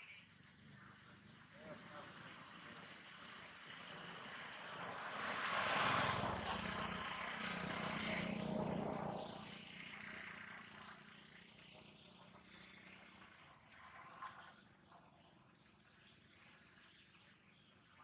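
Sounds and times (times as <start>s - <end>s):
engine passing by: 0.4s - 16.6s.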